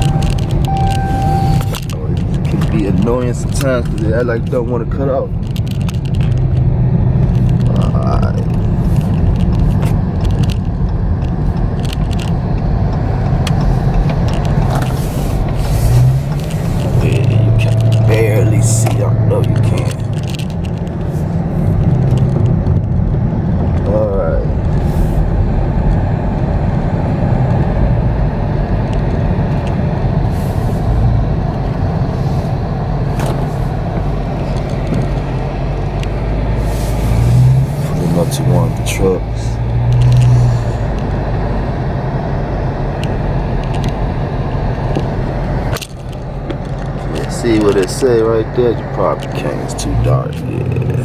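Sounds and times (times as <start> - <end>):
car engine rumble: 0.0 - 51.0
road noise: 0.0 - 51.0.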